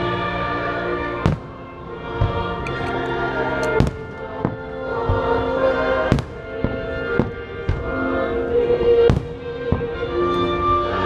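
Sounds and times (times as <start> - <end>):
patriotic soundtrack music: 0.0 - 11.0.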